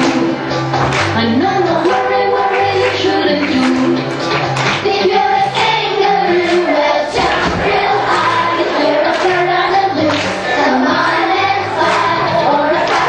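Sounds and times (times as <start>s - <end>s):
children's choir singing: 0.0s - 0.5s, 1.1s - 4.1s, 4.7s - 13.0s
instrumental accompaniment with bass: 0.0s - 13.0s.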